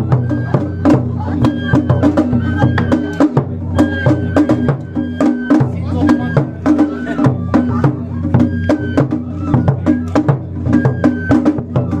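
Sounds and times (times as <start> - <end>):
large drum rapid strokes: 0.0 - 12.0.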